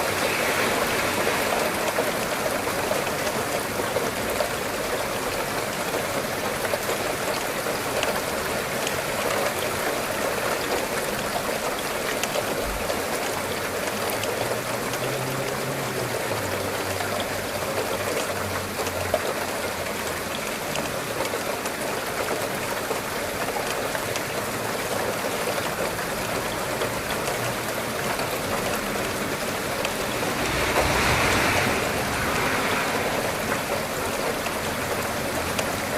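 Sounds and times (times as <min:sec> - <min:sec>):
steady rainfall: 0:00.0 - 0:35.9.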